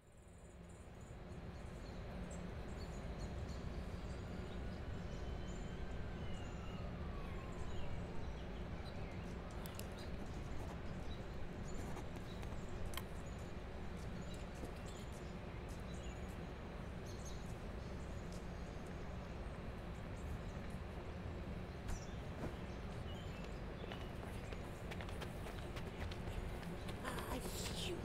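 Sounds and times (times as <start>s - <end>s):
low rumble of background noise: 0.0s - 28.0s.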